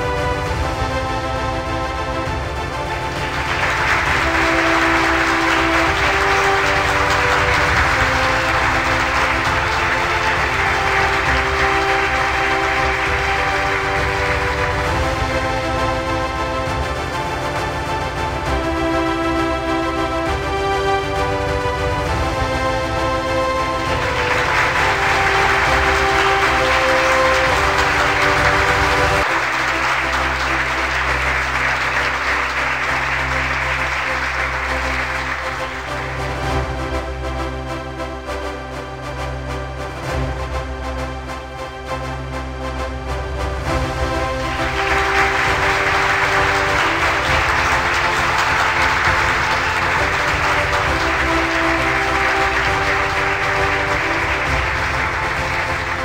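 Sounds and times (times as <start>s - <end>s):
audience applauding: 0.0s - 36.9s, 43.5s - 56.0s
background music: 0.0s - 56.0s.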